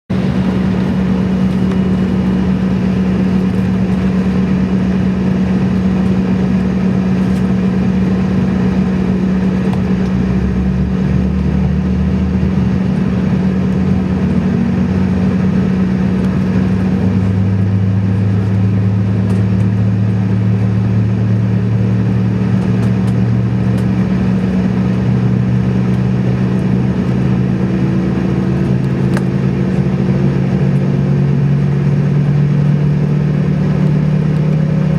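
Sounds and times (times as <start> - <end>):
airliner engines humming: 0.1 - 34.9.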